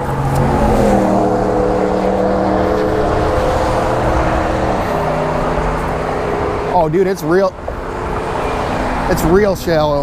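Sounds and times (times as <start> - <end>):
passing vehicle engine hum: 0.0 - 10.0.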